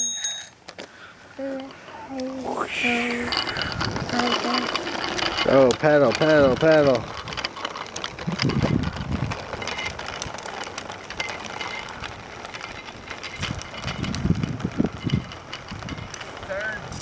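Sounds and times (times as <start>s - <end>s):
bicycle rolling on asphalt: 0.0s - 17.0s
low rumbles: 1.3s - 17.0s.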